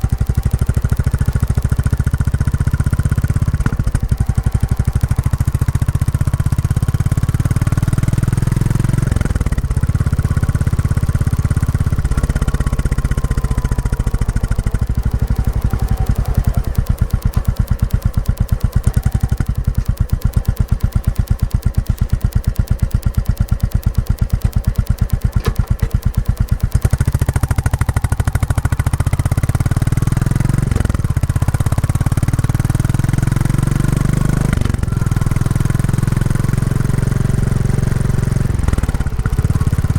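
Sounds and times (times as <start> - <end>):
motorcycle engine exhaust beats: 0.0 - 39.9.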